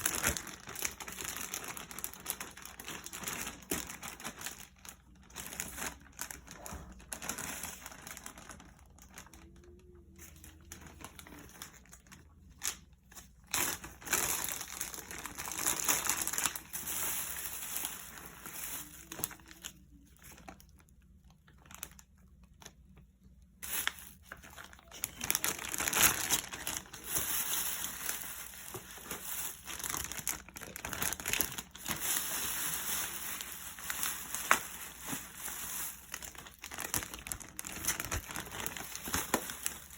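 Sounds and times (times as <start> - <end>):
plastic crinkling and rustling: 0.0 - 39.9.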